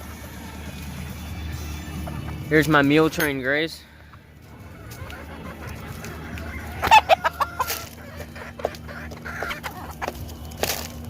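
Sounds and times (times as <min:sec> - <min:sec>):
chickens clucking: 0:00.7 - 0:11.0.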